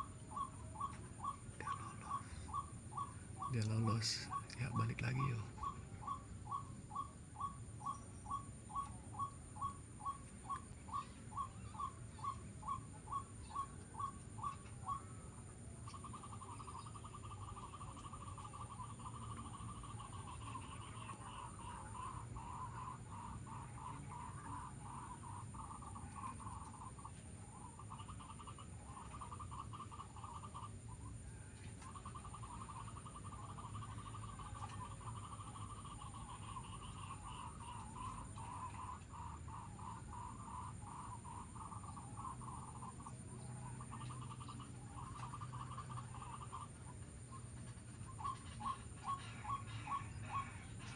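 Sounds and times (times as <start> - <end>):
bird calling and trilling: 0.0 - 50.9.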